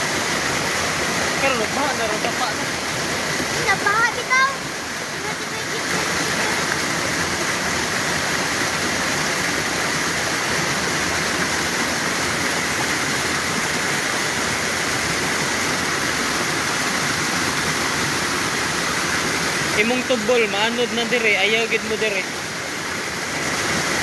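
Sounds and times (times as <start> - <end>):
floodwater rushing down creek: 0.0 - 24.0.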